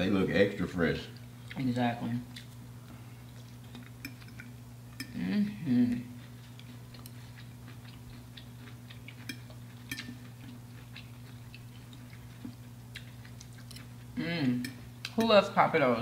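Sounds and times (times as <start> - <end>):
steady low hum: 0.0 - 16.0
soft chewing: 1.0 - 15.3.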